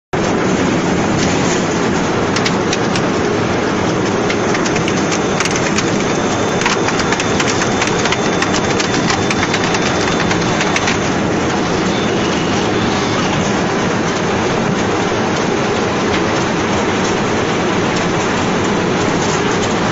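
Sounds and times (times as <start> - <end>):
log cutting machine running: 0.2 - 19.9.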